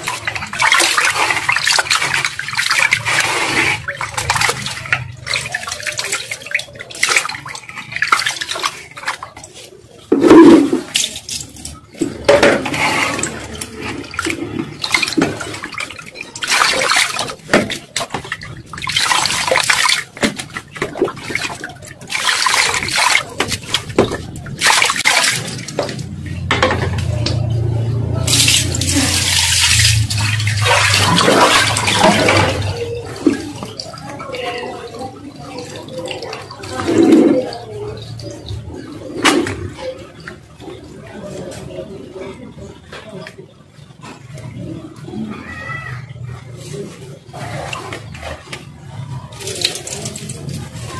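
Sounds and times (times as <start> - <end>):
water splashing in plastic basin: 0.0 - 50.9.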